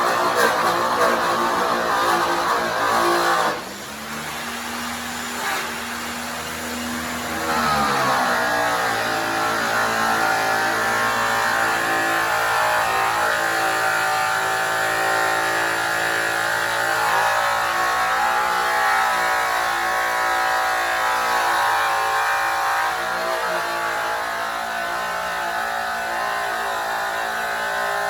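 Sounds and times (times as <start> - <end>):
electric polisher motor whine: 0.0 - 28.0.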